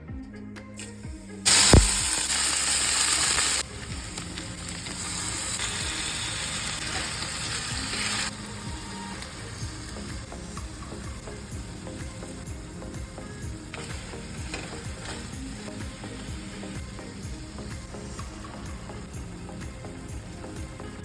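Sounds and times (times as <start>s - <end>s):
background music: 0.0s - 21.0s
food sizzling in hot oil: 0.8s - 21.0s.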